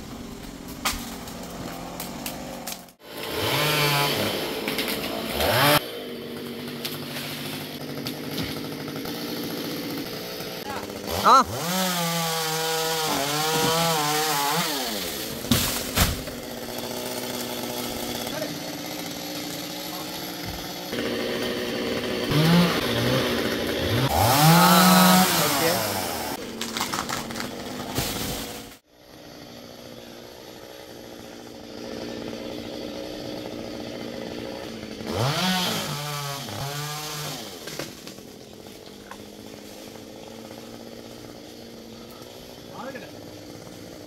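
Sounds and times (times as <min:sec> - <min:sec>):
chainsaw revving: 0:00.0 - 0:44.0.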